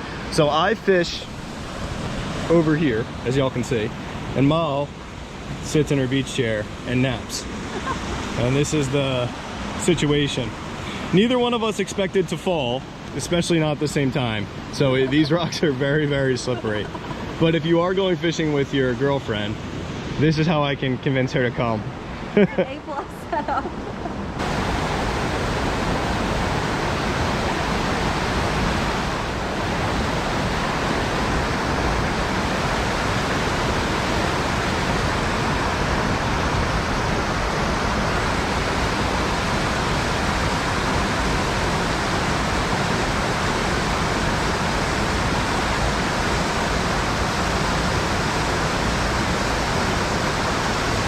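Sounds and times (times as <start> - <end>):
stream water rushing: 0.0 - 51.0.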